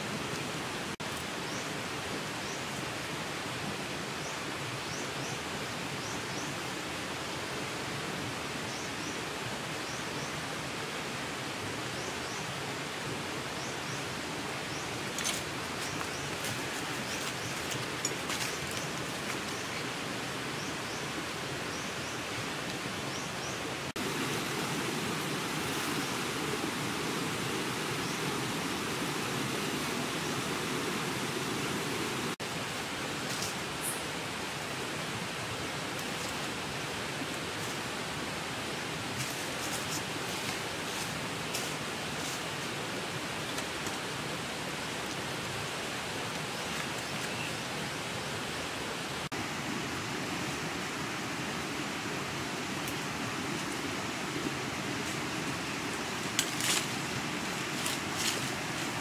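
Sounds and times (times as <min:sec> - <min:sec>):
forest rushing hiss: 0:00.0 - 0:59.0.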